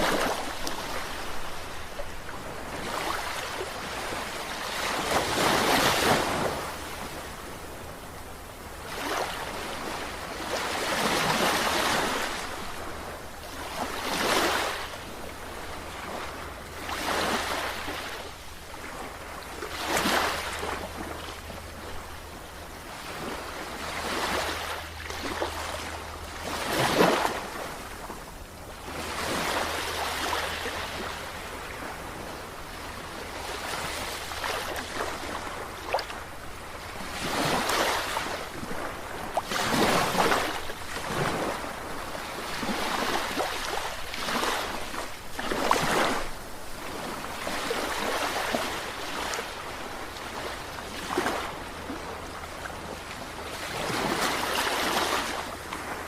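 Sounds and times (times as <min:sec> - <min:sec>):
sea waves breaking: 0:00.0 - 0:08.0, 0:08.8 - 0:56.0.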